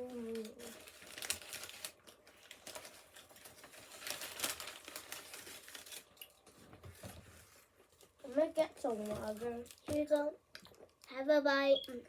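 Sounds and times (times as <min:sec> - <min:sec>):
wrappers crinkling: 0:00.0 - 0:10.3.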